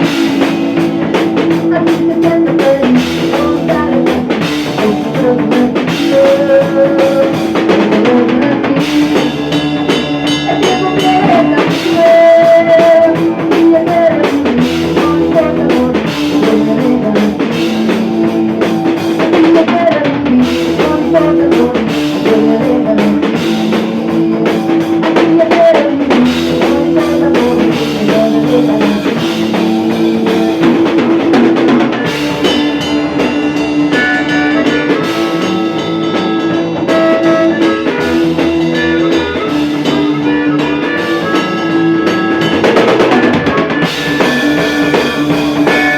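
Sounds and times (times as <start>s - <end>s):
drum kit steady beat: 0.0s - 45.9s
guitar held melody: 0.0s - 45.9s
rock band playing: 0.0s - 45.9s.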